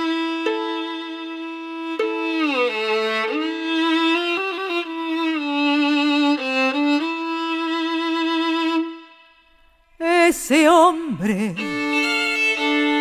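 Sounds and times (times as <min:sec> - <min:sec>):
solo violin slow melody: 0:00.0 - 0:13.0.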